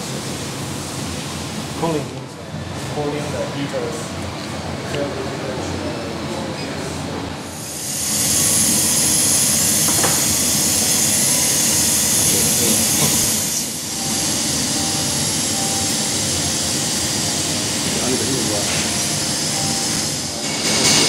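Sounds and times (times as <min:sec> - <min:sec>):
cooling fans blowing air: 0:00.0 - 0:21.0.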